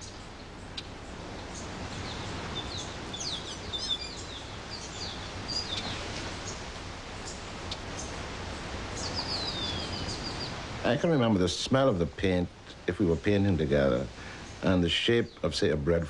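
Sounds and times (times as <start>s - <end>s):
birds chirping: 0.0s - 16.0s
steady background hiss: 0.0s - 16.0s.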